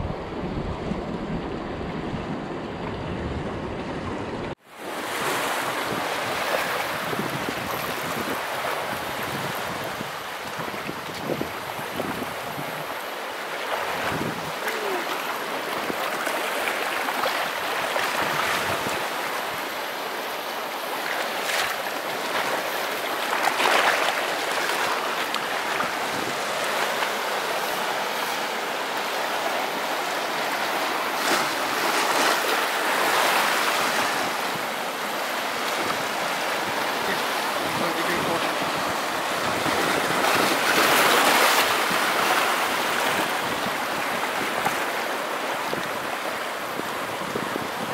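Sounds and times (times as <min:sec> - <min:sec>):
waves splashing over rocks: 0:00.9 - 0:47.9.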